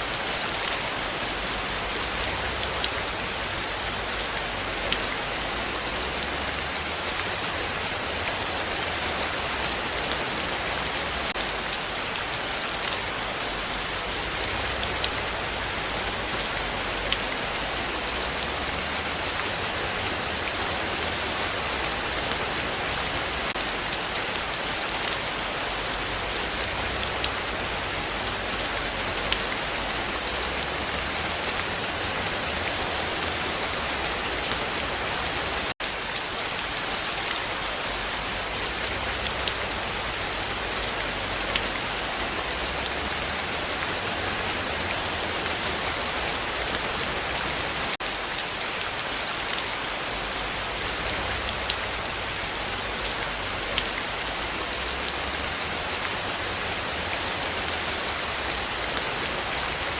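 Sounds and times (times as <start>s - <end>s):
heavy rain falling: 0.0s - 59.9s
raindrops ticking on surfaces: 0.0s - 59.9s.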